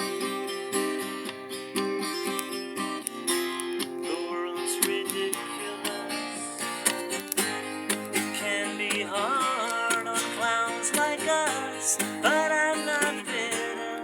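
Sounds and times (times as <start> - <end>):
acoustic guitar strumming: 0.0 - 14.0
guitar melody with bending notes: 0.0 - 14.0.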